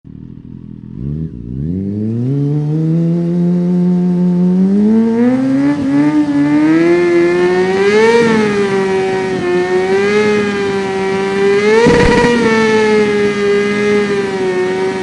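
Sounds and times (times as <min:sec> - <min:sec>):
motorcycle engine revving: 0:00.1 - 0:15.0.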